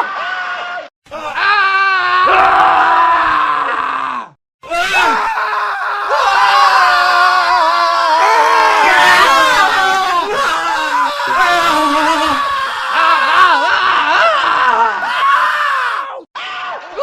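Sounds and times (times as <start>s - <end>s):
men screaming: 0.0s - 17.0s.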